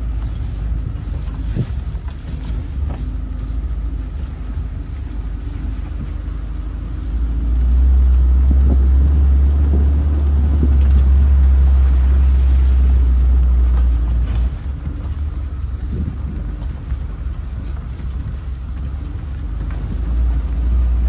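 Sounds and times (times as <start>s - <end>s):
jeep engine rumble: 0.0s - 21.0s
wind buffeting microphone: 0.0s - 21.0s.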